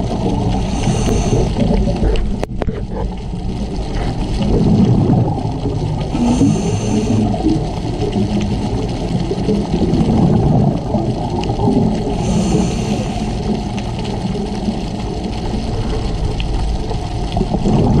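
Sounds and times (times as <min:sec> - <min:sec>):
underwater rush of water: 0:00.0 - 0:18.0.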